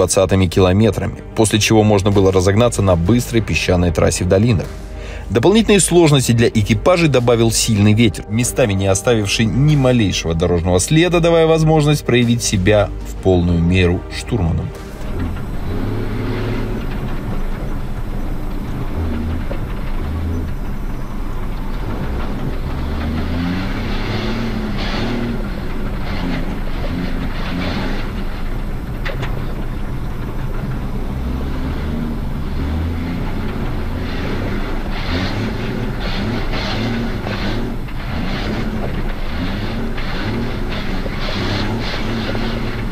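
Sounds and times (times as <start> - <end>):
cab rattling over stones: 0.0 - 42.9
diesel engine under load: 0.0 - 42.9.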